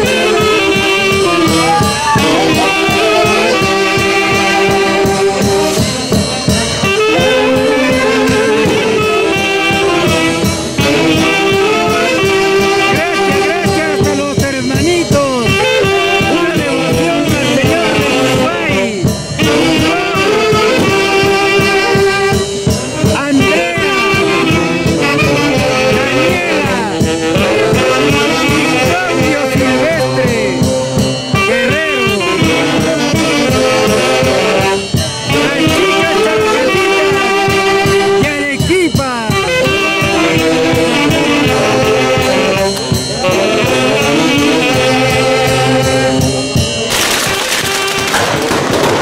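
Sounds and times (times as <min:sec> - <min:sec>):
folk orchestra with wind instruments: 0:00.0 - 0:49.0.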